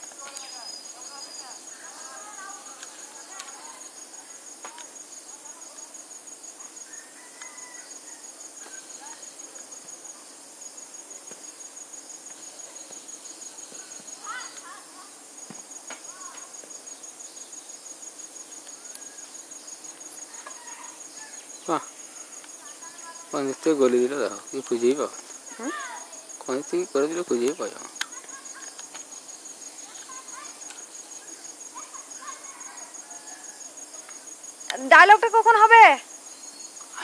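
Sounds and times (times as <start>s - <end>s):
insect trilling: 0.0s - 37.0s.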